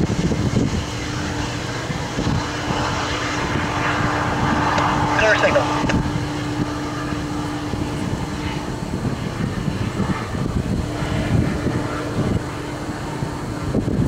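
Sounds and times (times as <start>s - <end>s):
diesel locomotive humming: 0.0s - 14.0s
wind buffeting microphone: 0.0s - 14.0s.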